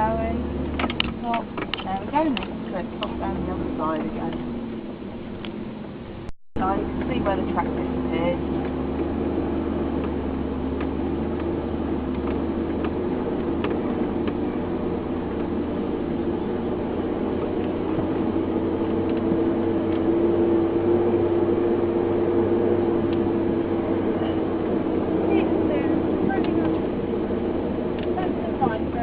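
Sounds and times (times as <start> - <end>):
vehicle engine running at low speed: 0.0 - 29.0.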